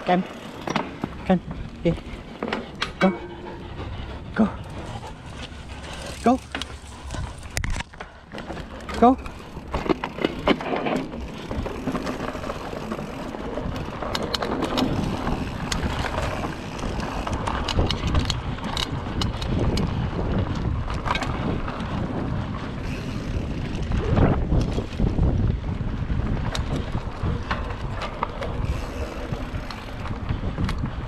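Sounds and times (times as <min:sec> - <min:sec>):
bike tyres rolling on dirt: 0:00.0 - 0:03.0, 0:04.6 - 0:31.0
bike clicks and rattles: 0:00.0 - 0:31.0
wind buffeting microphone: 0:00.0 - 0:31.0.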